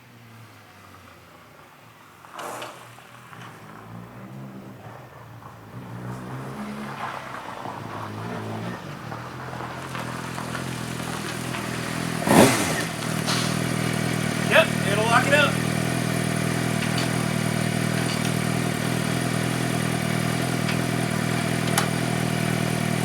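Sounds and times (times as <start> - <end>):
motorcycle engine running: 3.3 - 23.0.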